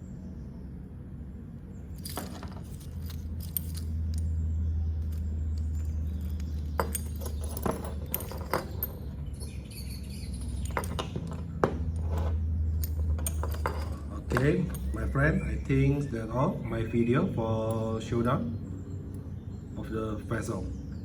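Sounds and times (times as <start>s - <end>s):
steady low hum: 0.0s - 21.0s
metal bits clinking: 1.9s - 20.7s.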